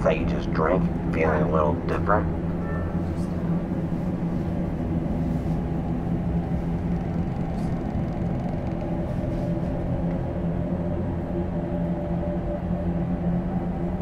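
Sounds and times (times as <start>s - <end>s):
low horror film drone: 0.0s - 14.0s.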